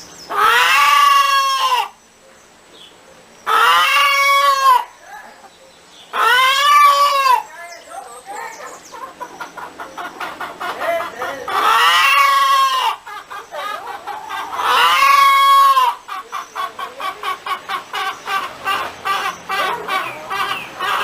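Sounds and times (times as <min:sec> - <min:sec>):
hen clucking: 0:00.3 - 0:02.0, 0:03.5 - 0:21.0
hen long drawn-out call: 0:00.3 - 0:02.0, 0:03.4 - 0:21.0.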